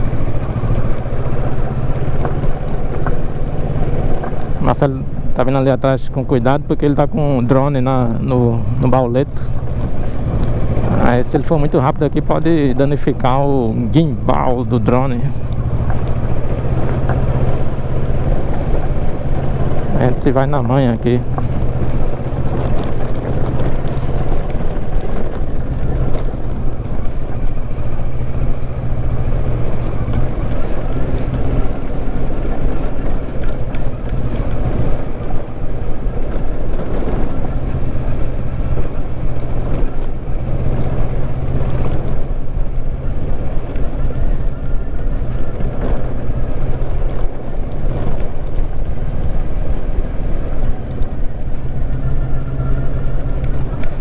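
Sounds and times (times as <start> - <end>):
motorcycle engine running: 7.2 - 54.0.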